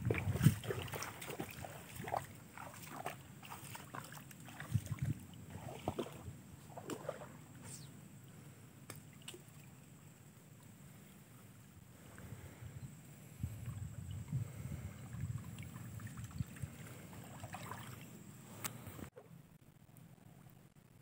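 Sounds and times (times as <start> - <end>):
sloshing shallow water: 0.0 - 7.8, 8.4 - 19.0.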